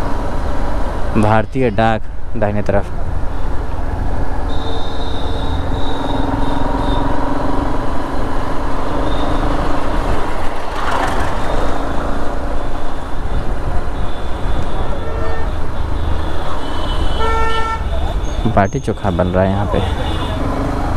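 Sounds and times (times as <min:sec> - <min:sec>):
road traffic: 0:00.0 - 0:20.9.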